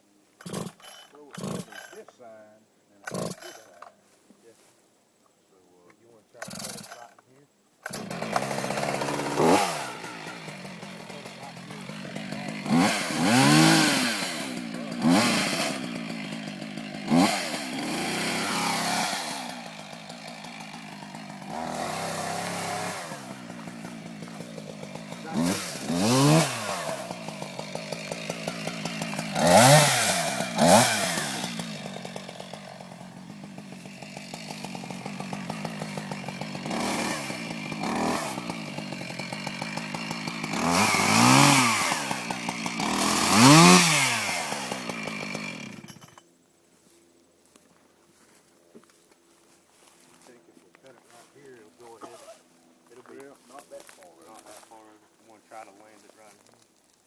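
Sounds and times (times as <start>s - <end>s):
chainsaw idling and revving: 0.4s - 2.3s, 3.0s - 3.9s, 6.3s - 7.2s, 7.8s - 46.3s, 49.7s - 56.6s.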